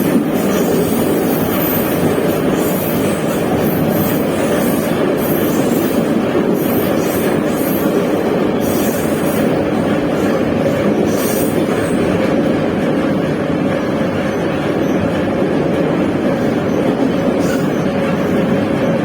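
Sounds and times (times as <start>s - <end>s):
metro train wheels on rails: 0.0s - 19.0s.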